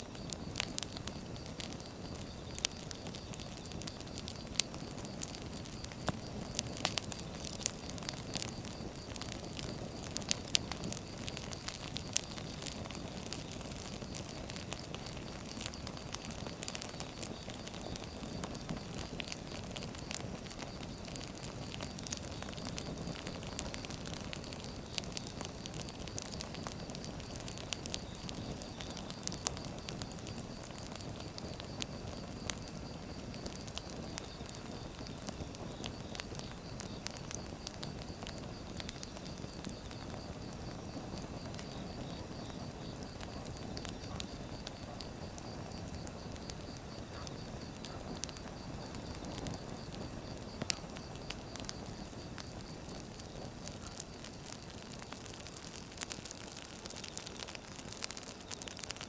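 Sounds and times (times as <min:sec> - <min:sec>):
fire crackling and popping: 0:00.0 - 0:59.0
low rumble of flame: 0:00.0 - 0:59.0.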